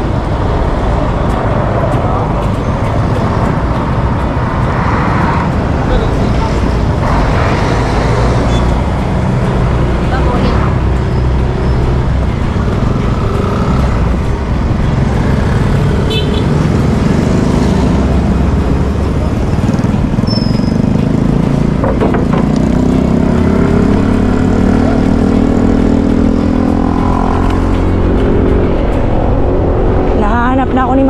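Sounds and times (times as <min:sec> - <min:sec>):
motorcycle engine running: 0:00.0 - 0:30.1.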